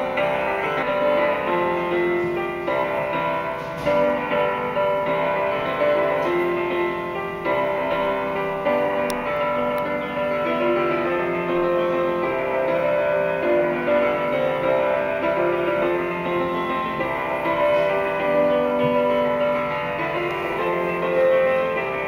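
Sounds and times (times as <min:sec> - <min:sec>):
keyboard melody: 0:00.0 - 0:22.0.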